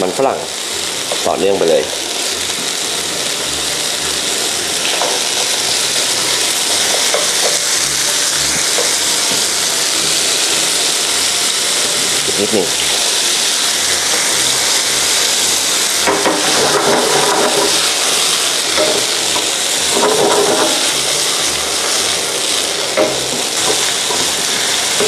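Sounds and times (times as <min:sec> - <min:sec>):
food sizzling in frying pan: 0:00.0 - 0:25.0
wooden spatula stir-frying: 0:00.5 - 0:25.0.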